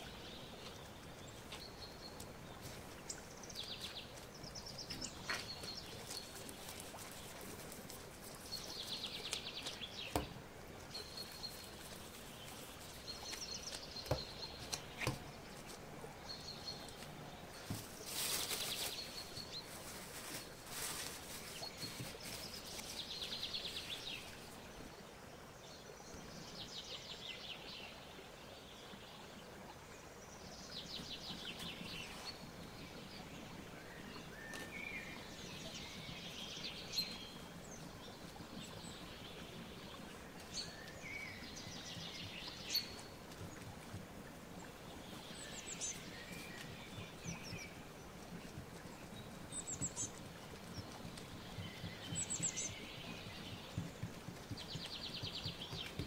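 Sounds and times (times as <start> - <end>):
background hiss: 0.0 - 56.0.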